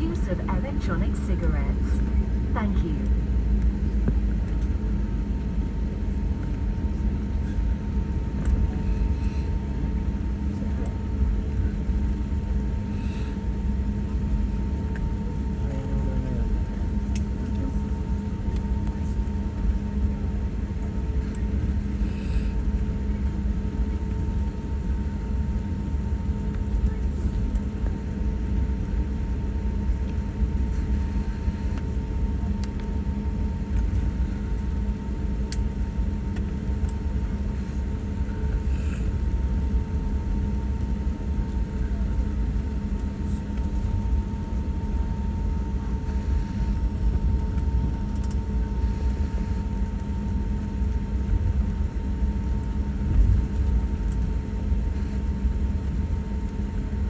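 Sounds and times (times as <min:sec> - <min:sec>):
airliner cabin rumble and hum: 0:00.0 - 0:57.0.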